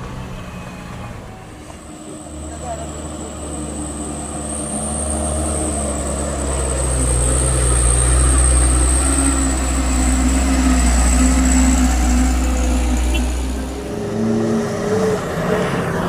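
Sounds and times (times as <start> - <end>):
truck diesel engine labouring: 0.0 - 16.0.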